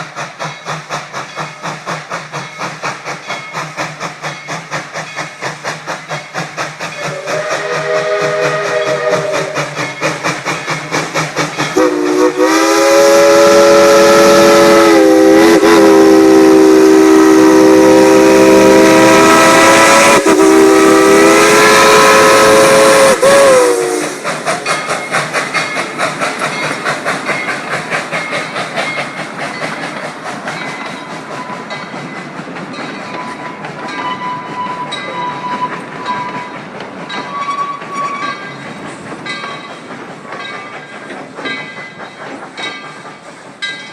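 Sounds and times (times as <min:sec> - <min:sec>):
steam locomotive chime whistle: 0:00.0 - 0:10.3, 0:11.0 - 0:29.8, 0:30.5 - 0:39.7
train chugging and clacking: 0:00.0 - 0:43.9.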